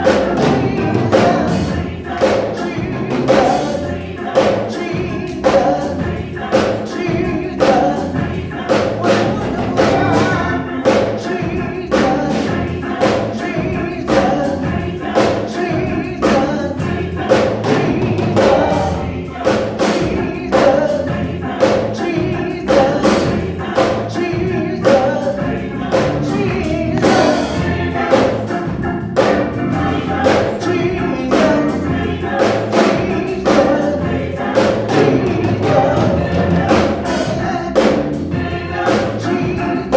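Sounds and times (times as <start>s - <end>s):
band accompaniment with steady beat: 0.0s - 39.9s
gospel choir singing: 0.0s - 39.9s.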